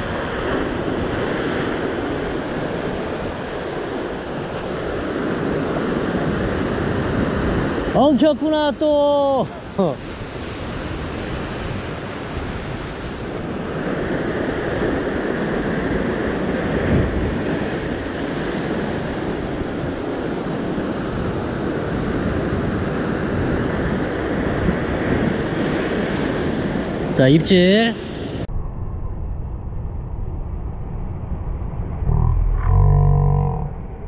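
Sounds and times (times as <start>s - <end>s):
ocean surf breaking on rocks: 0.0s - 28.4s.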